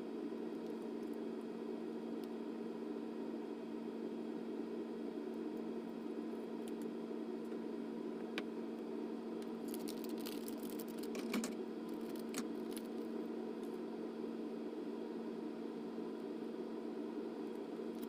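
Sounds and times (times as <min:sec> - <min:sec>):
low electrical hum with hiss: 0:00.0 - 0:18.0.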